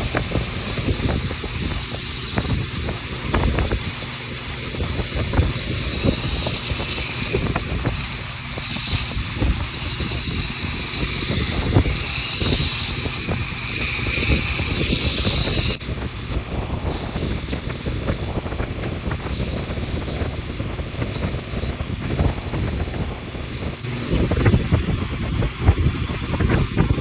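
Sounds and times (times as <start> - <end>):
belt grinder motor running: 0.0 - 27.0
steel blade grinding on belt: 0.0 - 27.0.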